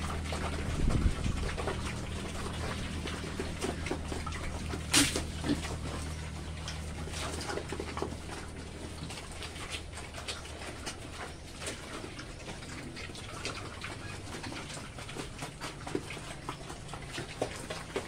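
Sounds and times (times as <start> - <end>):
low steady hum: 0.0 - 18.0
pigs chomping food: 0.0 - 18.0.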